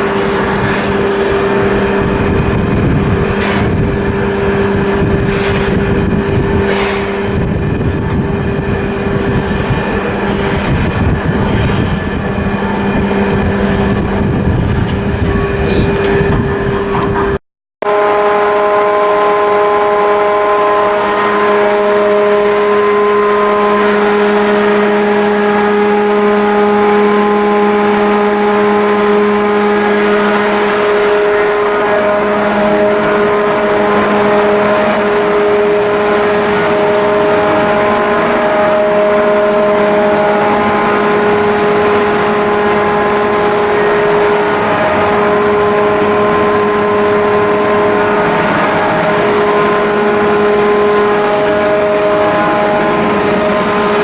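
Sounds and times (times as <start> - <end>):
ship diesel engine droning: 0.0 - 54.0.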